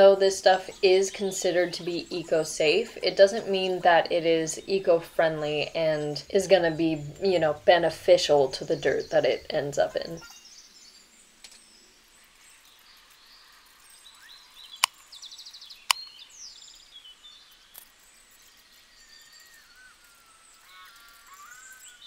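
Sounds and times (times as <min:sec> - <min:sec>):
birds chirping and singing: 0:00.0 - 0:22.0.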